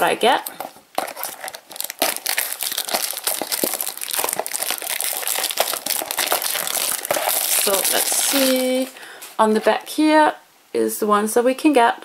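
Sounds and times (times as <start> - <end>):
plastic wrap crinkling: 0.0 - 9.9.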